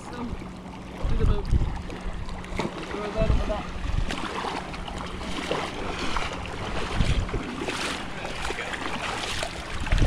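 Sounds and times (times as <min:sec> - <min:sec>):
surf and water rushing: 0:00.0 - 0:10.0
wind rumbling on microphone: 0:00.9 - 0:02.4, 0:03.0 - 0:10.0.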